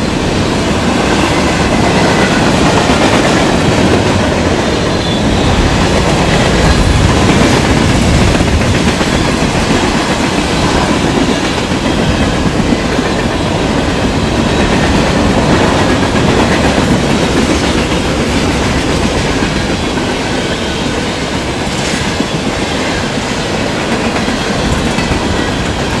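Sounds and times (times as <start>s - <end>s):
train rumble: 0.0s - 26.0s
wheels clacking over rail joints: 0.0s - 26.0s
wind buffeting microphone: 0.0s - 26.0s.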